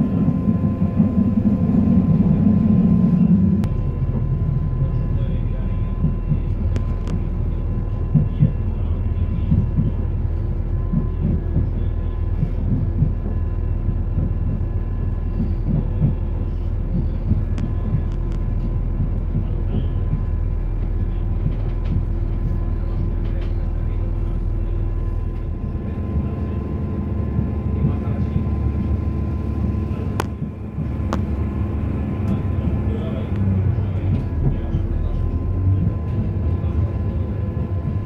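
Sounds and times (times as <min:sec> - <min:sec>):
train wheels clattering on rails: 0:00.0 - 0:38.0.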